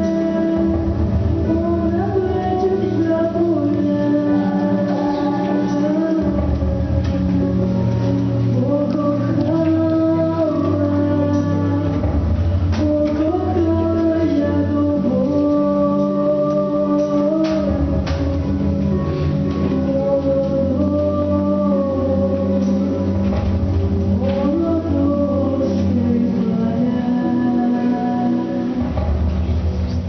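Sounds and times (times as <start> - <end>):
woman singing slow melody: 0.0 - 29.5
instrumental accompaniment: 0.0 - 30.0.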